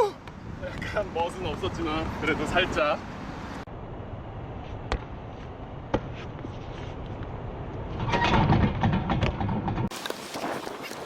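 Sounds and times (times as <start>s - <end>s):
low outdoor rumble: 0.2s - 9.9s.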